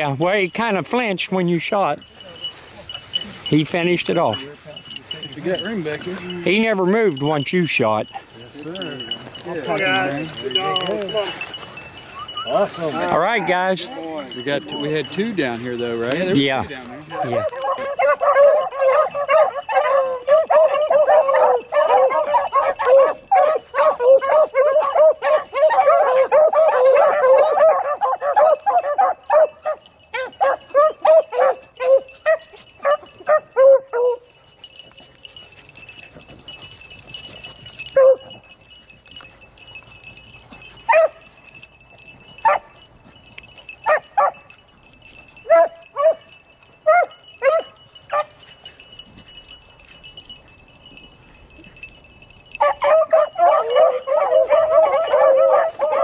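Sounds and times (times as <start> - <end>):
dogs baying and barking: 0.0 - 56.0.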